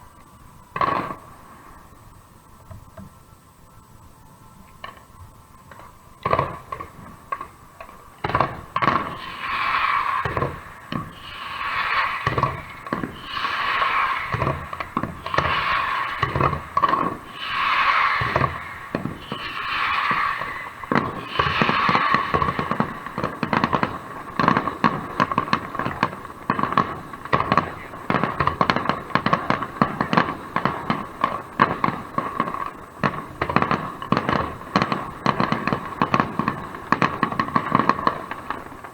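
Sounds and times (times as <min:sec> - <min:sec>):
firework crackles: 0:00.0 - 0:38.9
firework bangs: 0:00.7 - 0:01.8, 0:06.2 - 0:38.9
firework hisses: 0:06.1 - 0:38.9.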